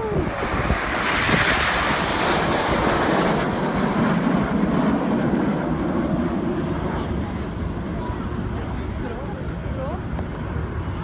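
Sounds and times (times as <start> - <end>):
jets passing by roaring: 0.0 - 10.1.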